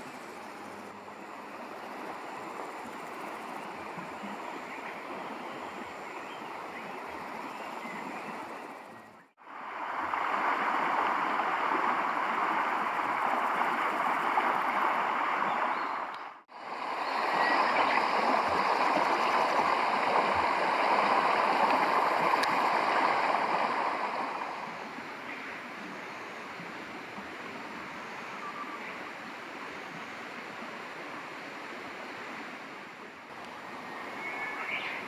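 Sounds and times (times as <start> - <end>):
running water: 0.0 - 35.0.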